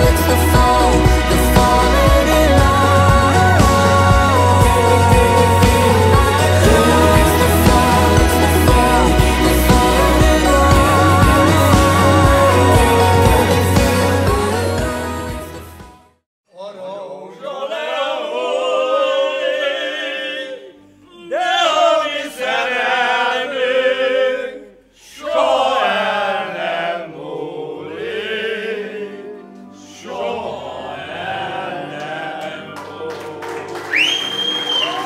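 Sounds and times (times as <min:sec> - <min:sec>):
men singing together: 0:00.0 - 0:15.8, 0:16.6 - 0:33.8.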